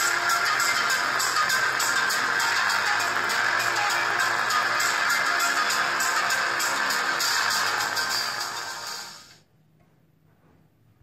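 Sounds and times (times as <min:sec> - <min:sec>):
background music: 0:00.0 - 0:09.4.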